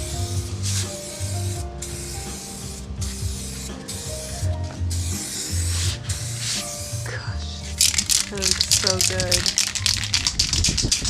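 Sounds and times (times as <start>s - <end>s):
spray can hissing: 0.0s - 7.0s, 7.7s - 11.0s
background music: 0.0s - 11.0s.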